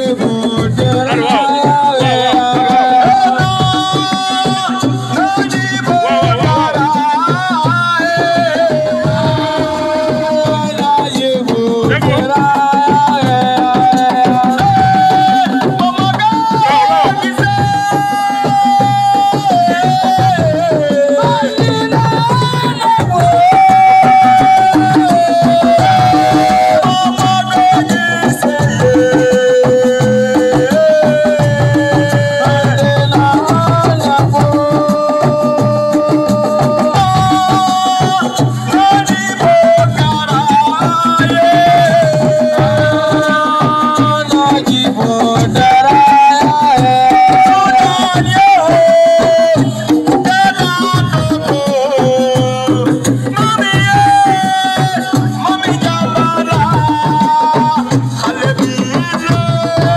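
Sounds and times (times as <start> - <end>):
hand drums playing dense rhythm: 0.0 - 59.9
held melody line: 0.0 - 59.9.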